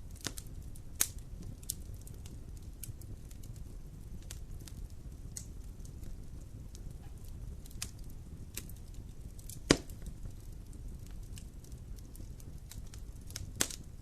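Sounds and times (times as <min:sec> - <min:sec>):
loud pop from fire: 0:00.0 - 0:03.6, 0:04.2 - 0:11.4, 0:12.2 - 0:13.9
wood fire crackling: 0:00.0 - 0:14.0.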